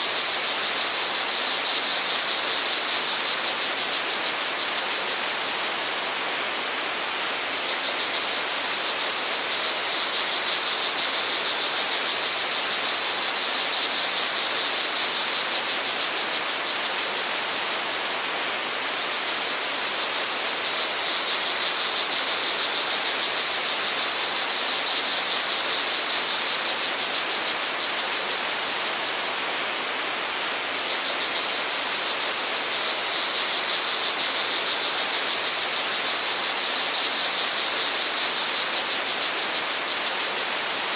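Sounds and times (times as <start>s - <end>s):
crickets trilling: 0.0s - 6.2s, 7.4s - 29.5s, 30.6s - 40.9s.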